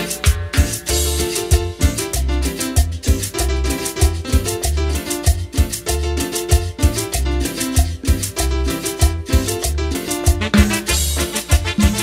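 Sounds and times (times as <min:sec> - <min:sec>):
keyboard bass and chords: 0:00.0 - 0:12.0
timbales and congas beat: 0:00.0 - 0:12.0.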